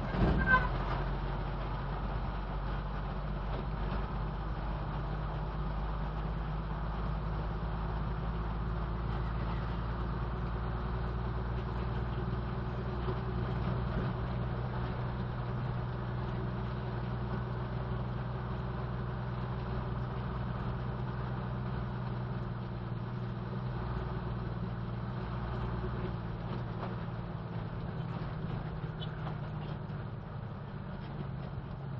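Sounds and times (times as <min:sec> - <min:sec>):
truck engine running: 0:00.0 - 0:31.9.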